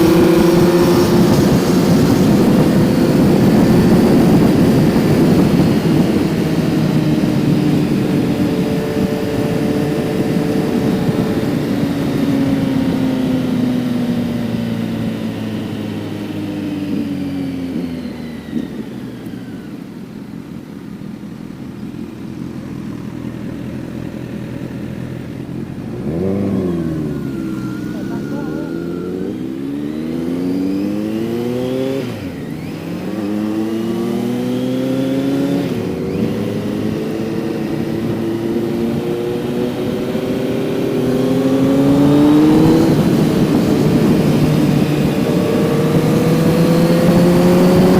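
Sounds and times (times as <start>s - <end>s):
wind noise: 0.0s - 19.6s, 25.5s - 47.9s
motorcycle engine: 0.0s - 47.9s.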